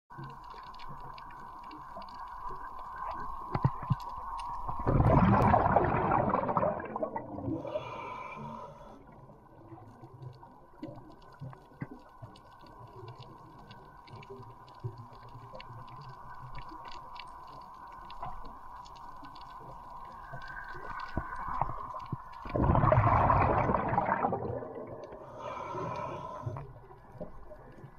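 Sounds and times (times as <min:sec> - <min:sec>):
steady underwater hum: 0:00.1 - 0:27.9.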